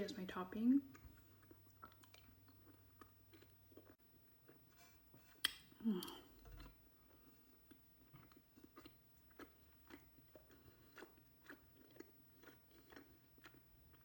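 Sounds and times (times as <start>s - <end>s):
mouth chewing sounds: 0.9s - 4.6s, 5.3s - 14.0s.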